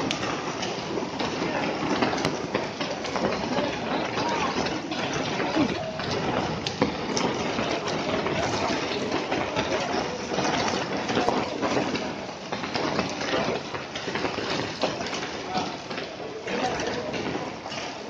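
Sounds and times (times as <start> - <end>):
hailstones striking: 0.0 - 18.0
heavy rain hissing: 0.0 - 18.0.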